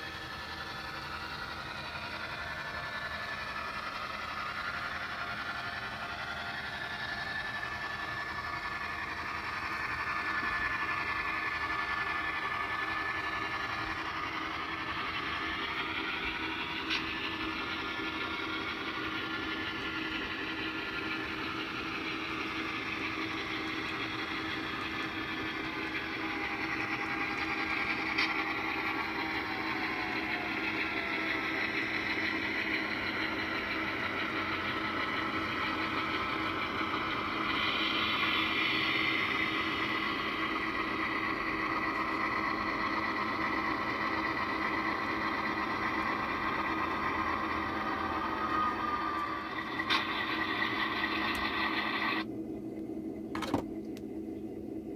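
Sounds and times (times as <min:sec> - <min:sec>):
model train mechanical hum: 0:00.0 - 0:54.9.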